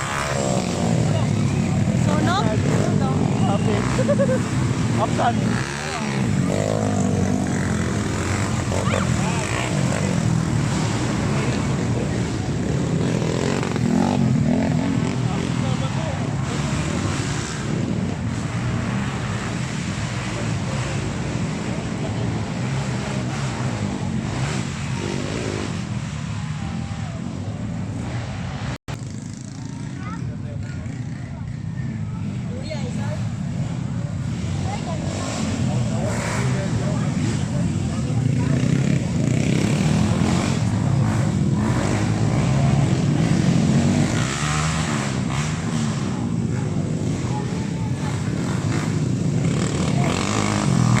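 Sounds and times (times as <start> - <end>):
motocross bike engines running: 0.0 - 51.0.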